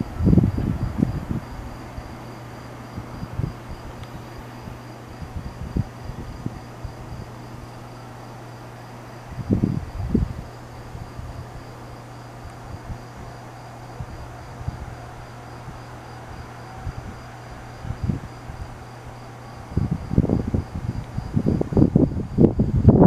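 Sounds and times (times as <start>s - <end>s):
crickets chirping: 0.0s - 23.0s
low steady hum: 0.0s - 23.0s
wind buffeting microphone: 0.0s - 23.0s.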